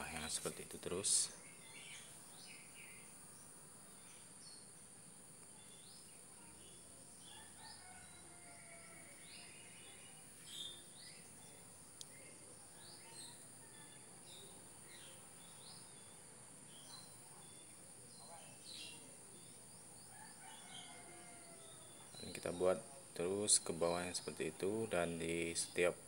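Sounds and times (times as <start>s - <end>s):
birds chirping: 0.0s - 26.0s
high insect hum: 0.0s - 26.0s.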